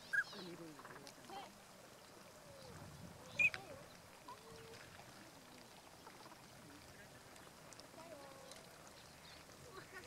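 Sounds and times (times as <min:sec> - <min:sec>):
swans calling softly: 0:00.0 - 0:10.0.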